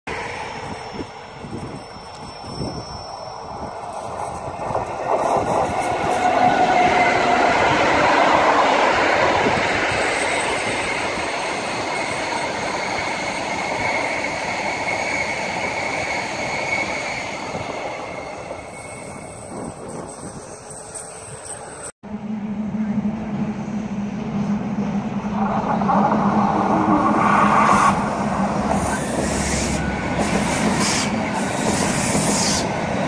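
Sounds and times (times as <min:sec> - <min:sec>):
train wheels rolling on rail: 0:00.1 - 0:21.9, 0:22.6 - 0:33.0.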